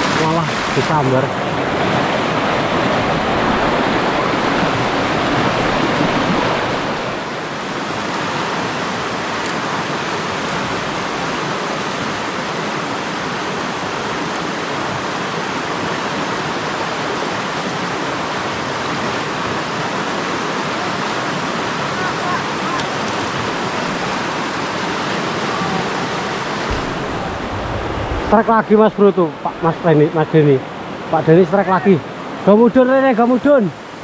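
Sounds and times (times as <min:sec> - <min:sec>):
rushing river water: 0:00.0 - 0:34.0.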